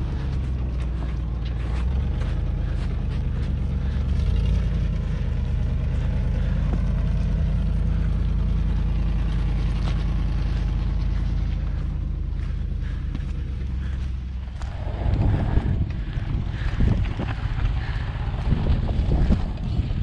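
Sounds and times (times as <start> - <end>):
stones clicking against vehicle: 0.0 - 20.0
tyres rolling over gravel: 0.0 - 20.0
vehicle engine rumble: 0.0 - 20.0.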